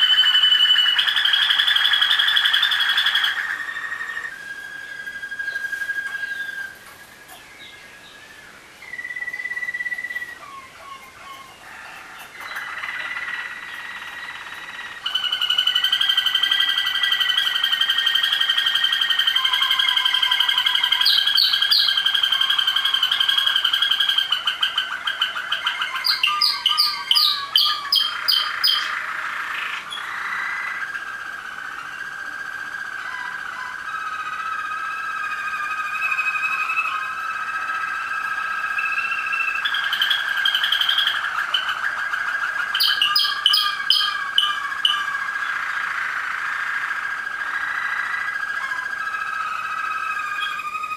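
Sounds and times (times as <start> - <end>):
canaries singing: 0.0 - 50.9.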